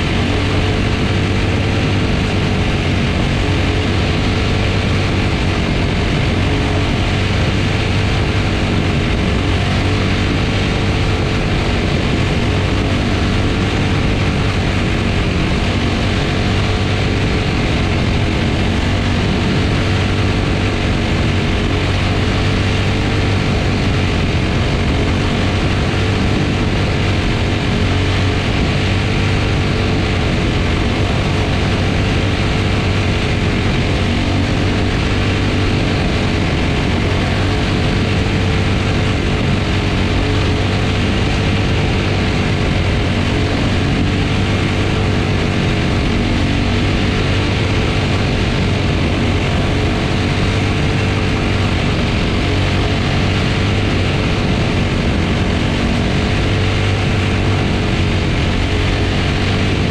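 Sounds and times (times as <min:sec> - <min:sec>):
single-cylinder racing engine drone: 0:00.0 - 0:59.9.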